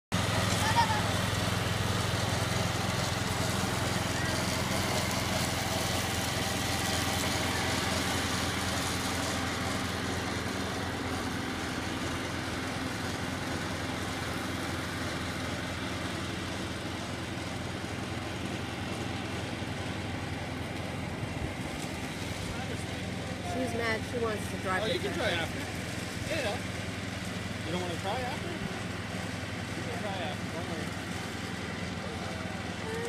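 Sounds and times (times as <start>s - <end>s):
tractor engine running: 0.1s - 33.0s.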